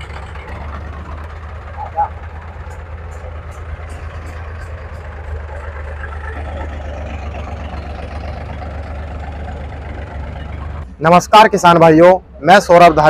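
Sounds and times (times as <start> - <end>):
diesel tractor engines idling: 0.0 - 13.0.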